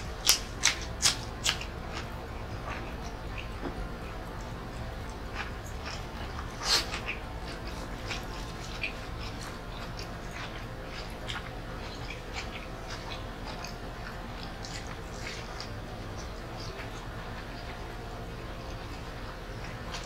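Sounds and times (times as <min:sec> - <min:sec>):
low background hum: 0:00.0 - 0:20.0
person chewing food: 0:00.0 - 0:20.0.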